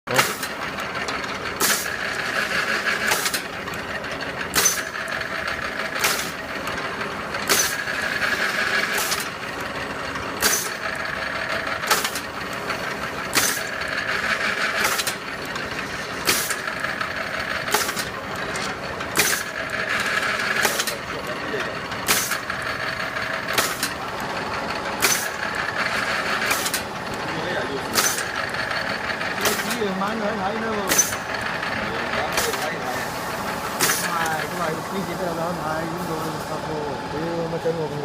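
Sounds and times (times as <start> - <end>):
sharp bursts of machine noise: 0.1 - 38.0
thread-cutting machine running: 0.1 - 38.0.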